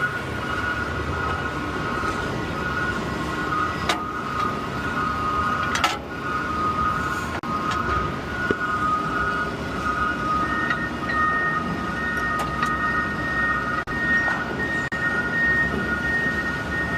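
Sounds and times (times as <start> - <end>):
truck engine and road noise: 0.0 - 16.9.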